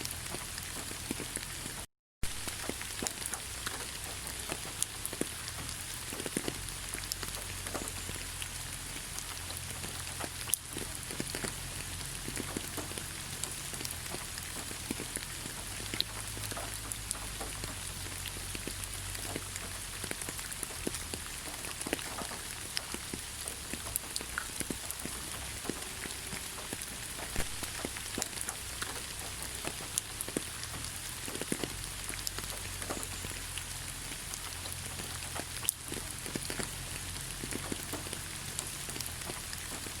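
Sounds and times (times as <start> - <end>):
rain pattering in forest: 0.0 - 40.0.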